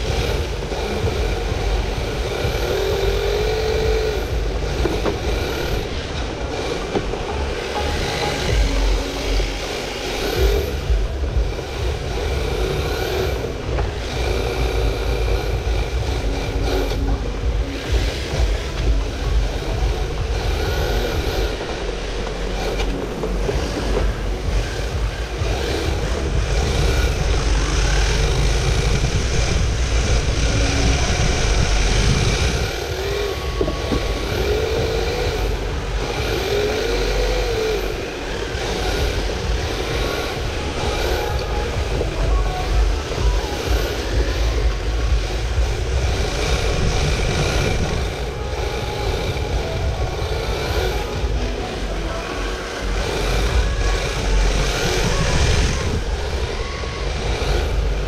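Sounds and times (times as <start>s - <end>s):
electric motor whirring and rattling: 0.0s - 58.0s
heavy rumble: 0.0s - 58.0s.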